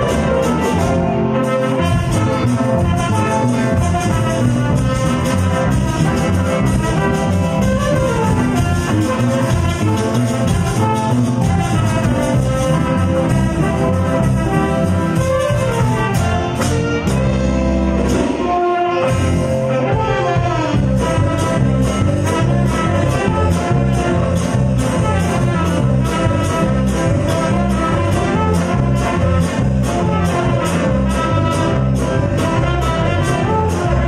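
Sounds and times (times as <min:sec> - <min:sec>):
latin dance band playing: 0:00.0 - 0:34.0
saxophones melody: 0:00.0 - 0:34.0.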